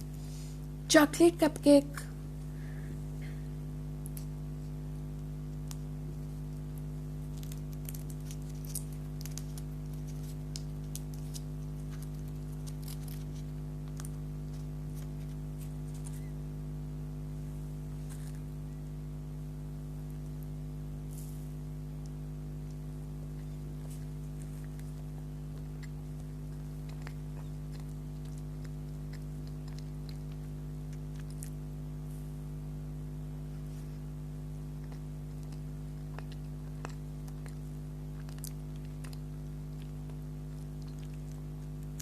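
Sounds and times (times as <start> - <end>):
low electrical hum: 0.0 - 42.0
soft chewing and mouth clicks: 4.0 - 16.4, 17.9 - 18.6, 20.0 - 32.4, 33.5 - 42.0.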